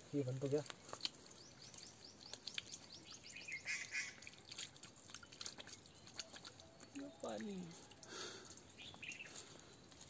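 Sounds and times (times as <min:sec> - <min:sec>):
water dripping and trickling over rocks: 0:00.0 - 0:10.0.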